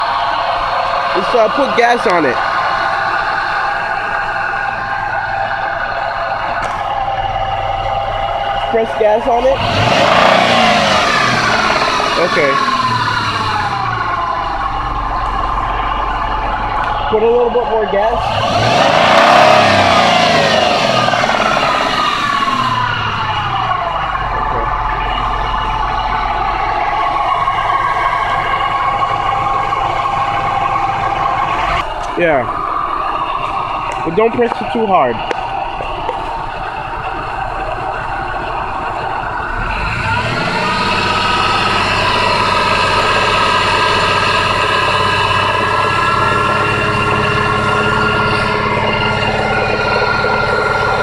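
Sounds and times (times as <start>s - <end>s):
car engine revving down to idle: 0.0s - 51.0s
engine knocking: 0.0s - 51.0s.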